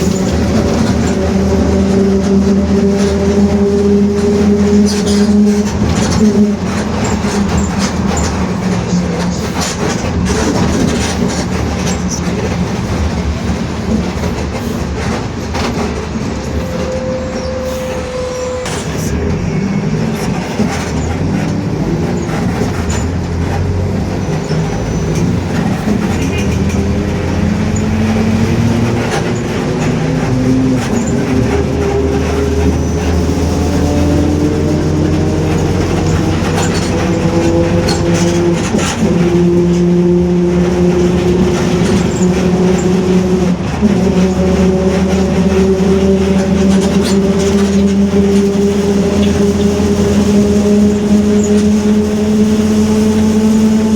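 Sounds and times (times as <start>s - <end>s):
bus body rattling: 0.0s - 53.9s
bus diesel engine droning: 0.0s - 53.9s.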